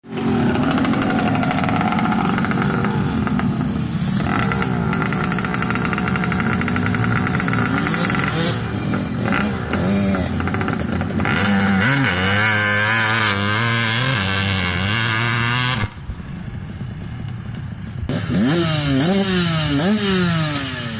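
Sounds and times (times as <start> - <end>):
dirt bike engines revving: 0.1 - 20.9.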